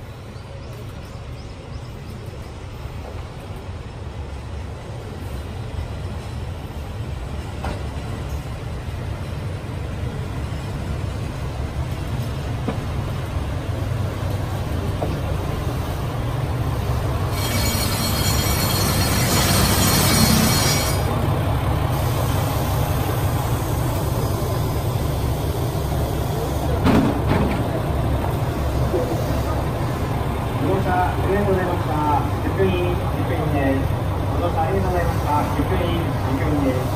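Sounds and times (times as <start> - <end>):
train engine and rail rumble: 0.0 - 36.9.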